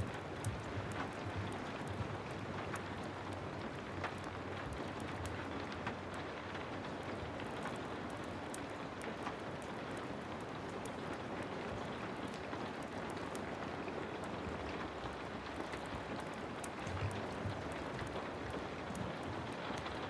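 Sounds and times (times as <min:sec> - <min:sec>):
heavy rain: 0:00.0 - 0:20.0
wood fire crackling: 0:00.0 - 0:20.0.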